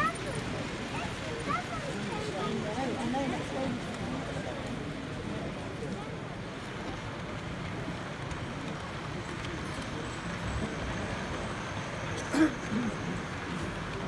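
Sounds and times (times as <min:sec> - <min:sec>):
murmur of distant voices: 0:00.0 - 0:14.0.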